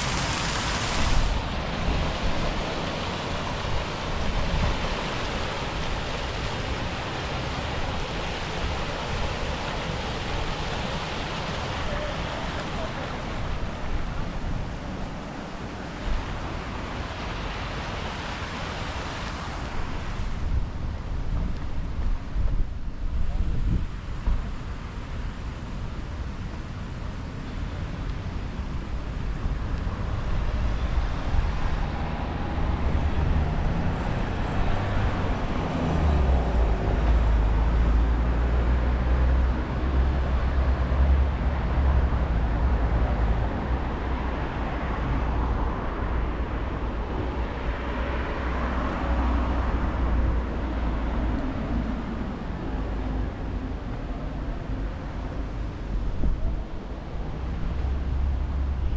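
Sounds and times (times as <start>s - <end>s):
vehicle engine rumble and tyre noise: 0.0s - 58.9s.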